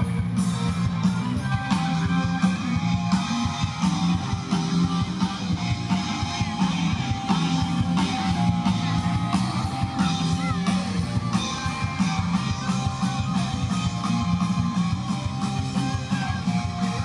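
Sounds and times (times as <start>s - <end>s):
drums: 0.0s - 17.0s
electric guitar: 0.0s - 17.0s.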